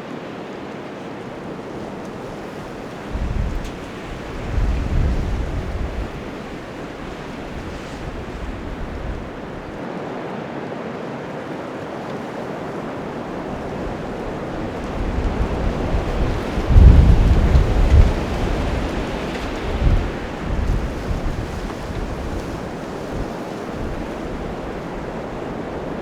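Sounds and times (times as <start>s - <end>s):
wind buffeting microphone: 1.1s - 9.8s, 11.6s - 26.0s
wind rushing: 1.3s - 9.8s, 12.6s - 26.0s.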